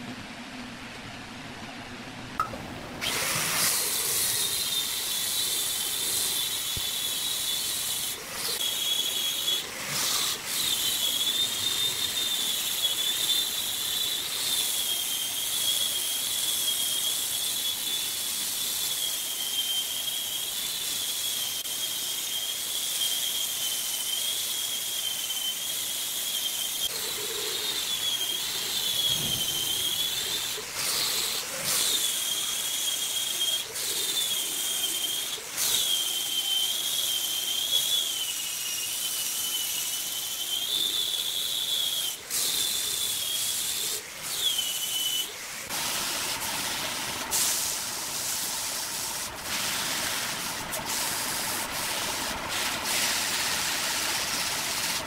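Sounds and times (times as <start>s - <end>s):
angle grinder sanding wood: 3.0s - 55.0s.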